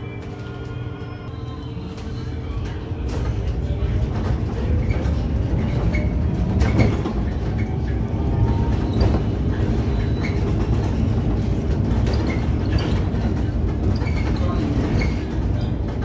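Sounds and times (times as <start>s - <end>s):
rattles and knocks: 3.0s - 16.0s.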